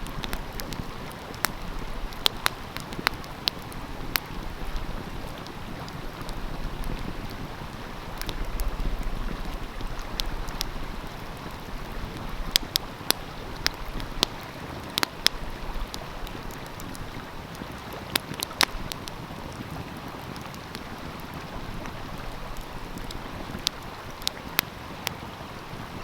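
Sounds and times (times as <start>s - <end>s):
stream flowing: 0.0s - 26.0s
wood fire crackling and popping: 0.0s - 26.0s.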